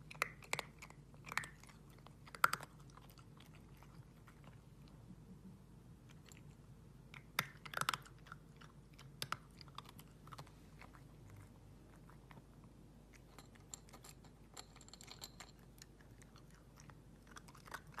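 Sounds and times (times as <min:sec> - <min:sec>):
cat crunching dry kibble: 0:00.0 - 0:04.9, 0:06.1 - 0:18.0.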